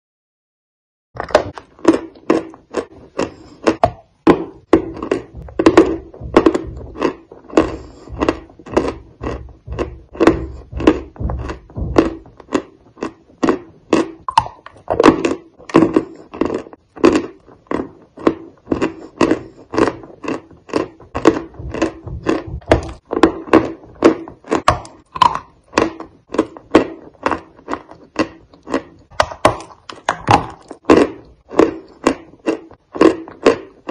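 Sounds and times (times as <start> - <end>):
chewing crumbly cookie: 1.2 - 33.9.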